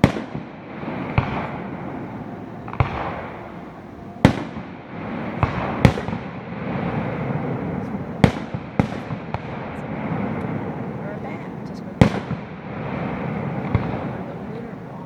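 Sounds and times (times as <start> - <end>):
fireworks bursting with bangs: 0.0 - 15.0
rolling rumble: 0.0 - 15.0.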